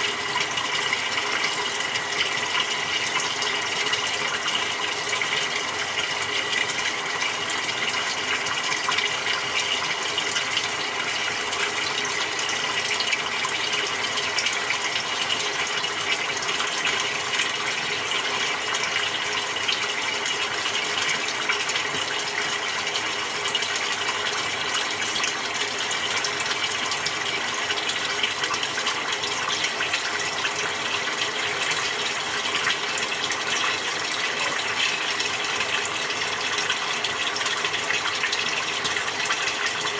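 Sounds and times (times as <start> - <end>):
water rushing into washing machine: 0.0 - 39.9.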